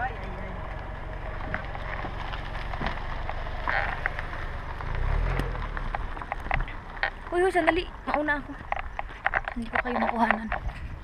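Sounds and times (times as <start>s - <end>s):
car rolling on gravel: 0.0s - 11.0s.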